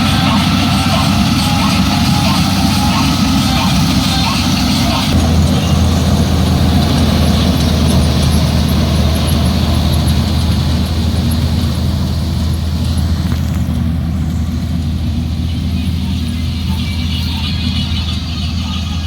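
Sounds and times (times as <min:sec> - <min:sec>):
machinery engine humming: 0:00.0 - 0:19.0.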